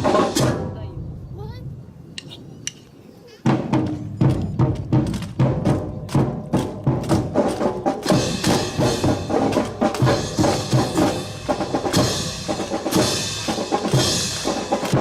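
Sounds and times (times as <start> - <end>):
music with drums: 0.0 - 0.8, 3.4 - 15.0.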